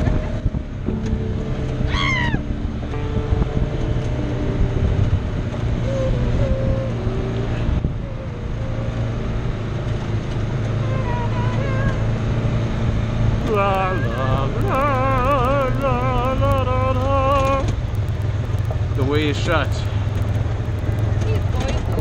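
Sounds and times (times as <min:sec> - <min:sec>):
utility vehicle engine running: 0:00.0 - 0:22.0.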